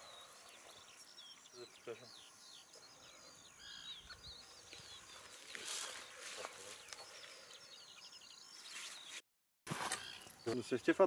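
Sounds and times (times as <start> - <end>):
songbird singing: 0.0 - 9.2, 9.8 - 11.0.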